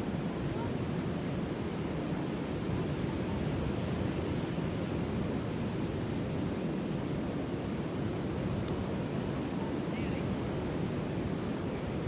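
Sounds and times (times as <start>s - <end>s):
low rumble of sea waves: 0.0s - 12.0s.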